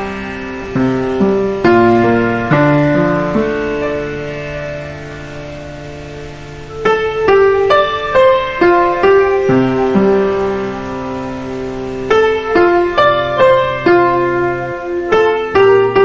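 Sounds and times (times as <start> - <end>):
piano notes: 0.0 - 16.0.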